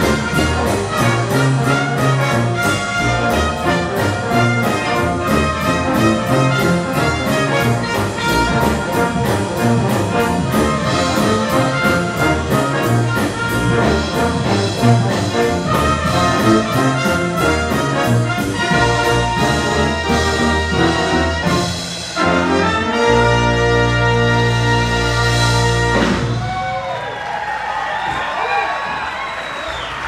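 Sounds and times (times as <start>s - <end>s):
drum kit beat: 0.0s - 26.4s
brass band playing: 0.0s - 27.0s.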